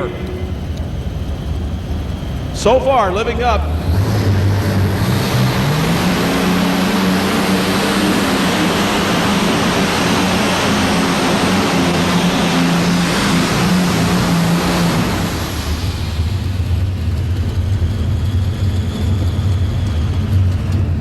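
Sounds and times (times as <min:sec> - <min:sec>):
tractor engines roaring: 0:00.0 - 0:21.0.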